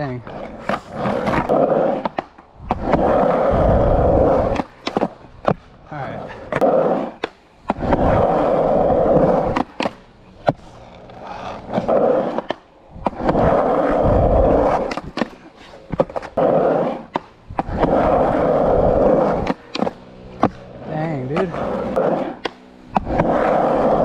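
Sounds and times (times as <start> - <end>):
skateboard wheels rolling: 0.0 - 24.0
skateboard clacks: 0.4 - 5.7, 6.4 - 24.0.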